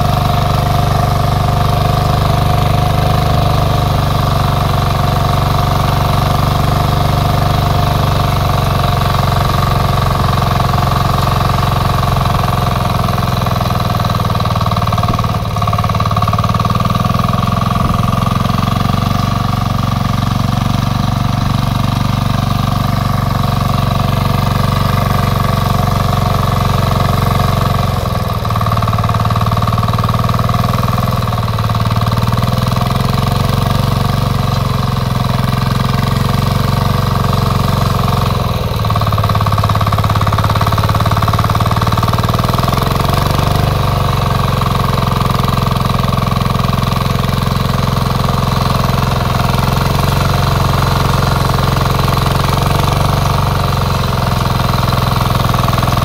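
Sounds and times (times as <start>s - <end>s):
power weeder engine running: 0.0s - 56.0s.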